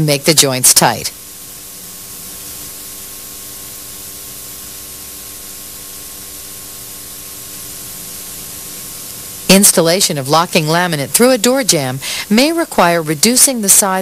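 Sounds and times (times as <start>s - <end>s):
tape hiss: 0.0s - 14.0s.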